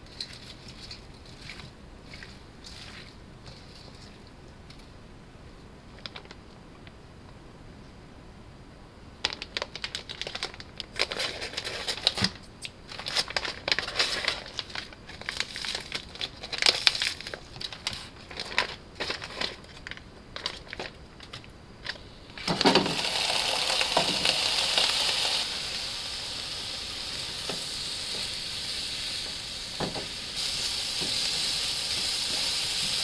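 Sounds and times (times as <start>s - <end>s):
food packaging crinkling: 0.0s - 4.9s, 6.0s - 6.4s, 9.2s - 33.0s.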